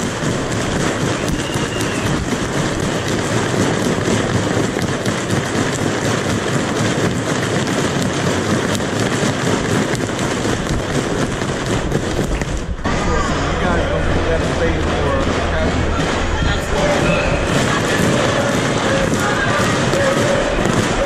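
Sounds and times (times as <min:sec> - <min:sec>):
crowd cheering and clapping: 0:00.0 - 0:21.0.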